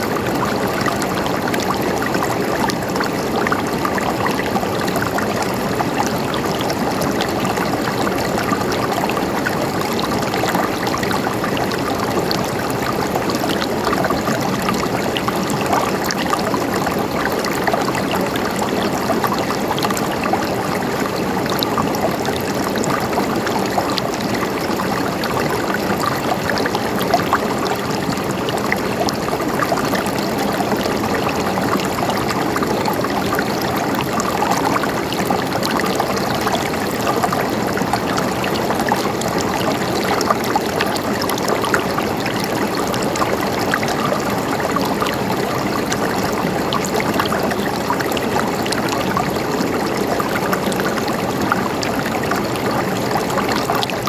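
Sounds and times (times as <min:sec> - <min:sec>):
mountain stream babbling: 0:00.0 - 0:54.0.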